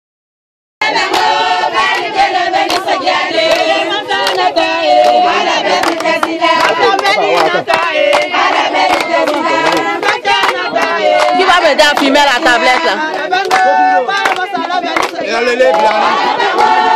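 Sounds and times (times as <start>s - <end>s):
crowd clapping hands: 0.8s - 16.9s
crowd singing: 0.8s - 16.9s.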